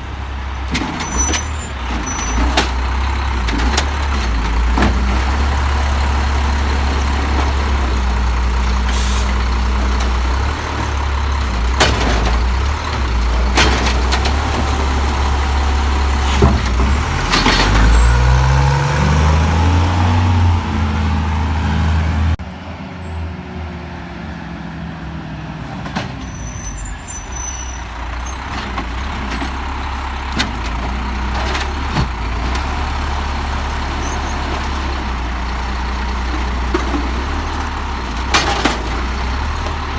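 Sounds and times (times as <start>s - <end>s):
truck engine revving: 0.0s - 22.5s, 26.8s - 39.9s.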